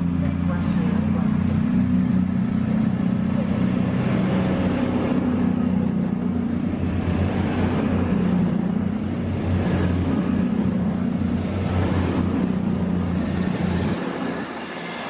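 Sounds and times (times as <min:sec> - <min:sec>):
train diesel engines droning: 0:00.0 - 0:15.0.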